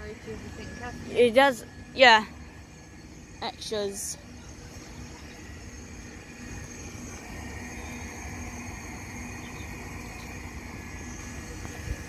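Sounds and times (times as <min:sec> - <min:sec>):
electric train rumble and whine: 0:00.0 - 0:12.0
level crossing alarm pulsing: 0:00.0 - 0:12.0.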